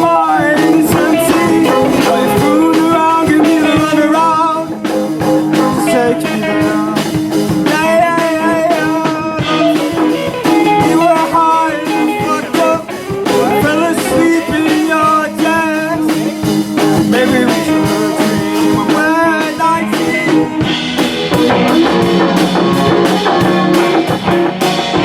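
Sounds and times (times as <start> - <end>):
electric guitar bending lines: 0.0 - 25.0
live rock band playing: 0.0 - 25.0.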